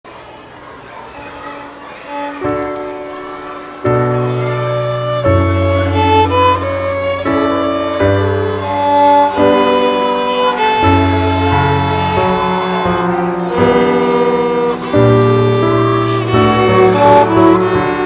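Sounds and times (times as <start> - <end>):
violin-like melody: 2.0 - 18.0
held chords: 2.1 - 18.0.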